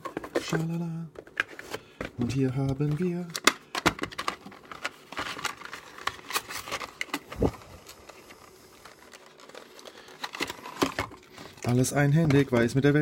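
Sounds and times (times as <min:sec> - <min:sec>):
cardboard packaging rustling: 0:00.0 - 0:13.0.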